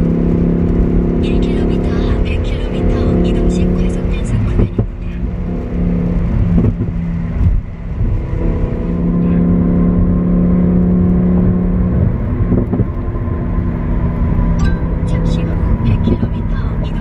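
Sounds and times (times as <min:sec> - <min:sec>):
sports car engine and exhaust: 0:00.0 - 0:17.0.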